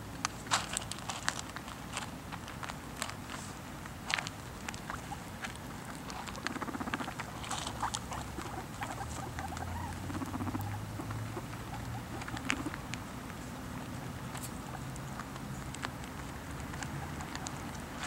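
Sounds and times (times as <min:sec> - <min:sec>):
guinea pigs crunching pellets: 0:00.0 - 0:18.0.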